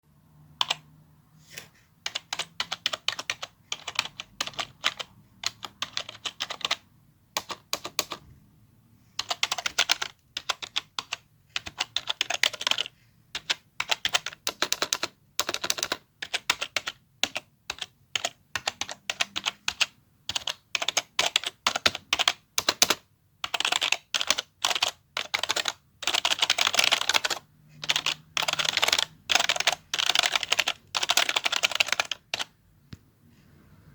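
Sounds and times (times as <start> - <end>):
fast typing on a keyboard: 0.6 - 0.8, 2.0 - 6.8, 7.4 - 8.2, 9.2 - 32.5.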